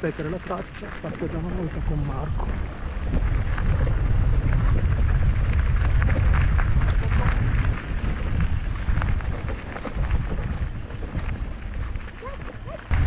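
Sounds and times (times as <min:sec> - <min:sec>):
bike clicks and rattles: 0:00.0 - 0:13.0
wind rumble on microphone: 0:00.0 - 0:13.0.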